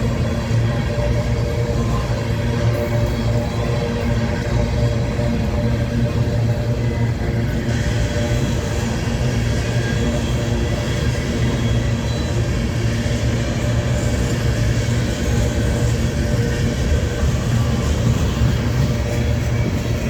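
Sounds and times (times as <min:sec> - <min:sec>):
freight train rumbling past: 0:00.0 - 0:20.0
wheels on rails: 0:00.0 - 0:20.0.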